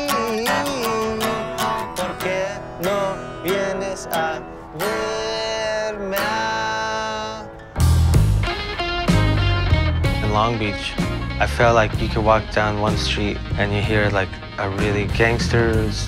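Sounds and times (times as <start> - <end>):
acoustic guitar strumming: 0.0 - 16.0
sliding melody line: 0.0 - 16.0.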